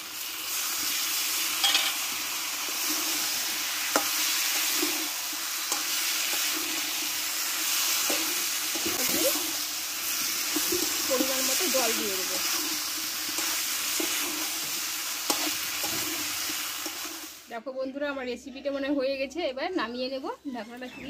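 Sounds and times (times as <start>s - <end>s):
vegetables sizzling in a pan: 0.0s - 17.8s.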